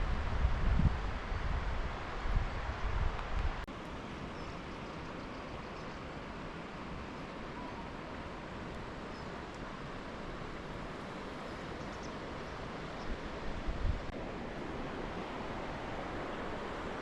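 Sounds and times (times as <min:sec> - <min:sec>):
river water rushing: 0:01.0 - 0:17.0.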